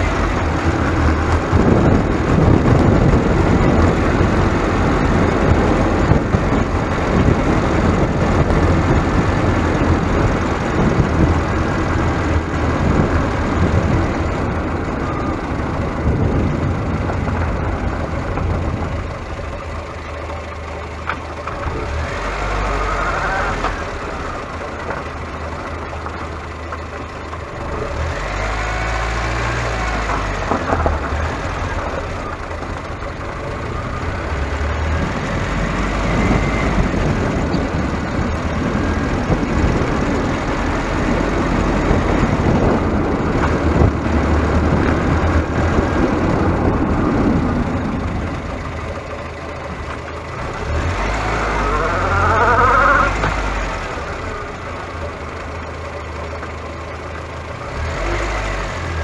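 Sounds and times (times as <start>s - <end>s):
vehicle rumble on road: 0.0s - 59.0s.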